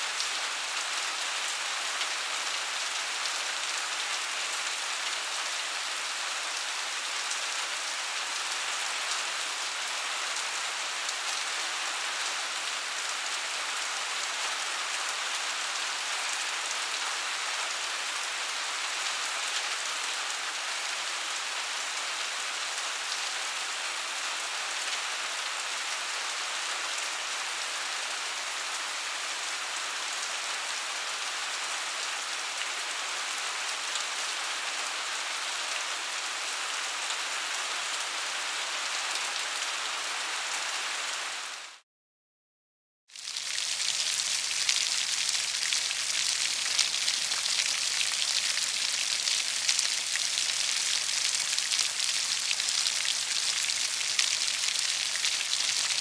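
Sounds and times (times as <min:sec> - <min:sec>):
steady rain falling: 0:00.0 - 0:41.8, 0:43.2 - 0:56.0.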